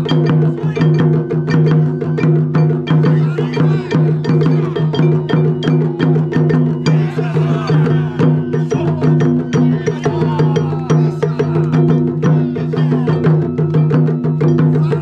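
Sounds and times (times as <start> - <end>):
taiko drum ensemble playing: 0.0 - 15.0.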